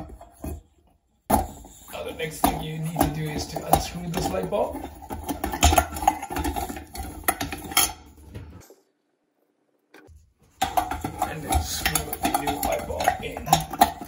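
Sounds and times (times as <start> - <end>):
fixture handling noise: 0.0 - 9.0, 9.8 - 14.0.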